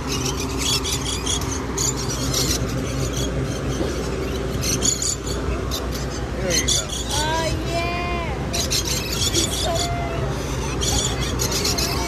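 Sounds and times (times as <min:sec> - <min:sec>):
parrots screeching: 0:00.0 - 0:07.6, 0:08.3 - 0:12.0
low background hum: 0:00.0 - 0:12.0.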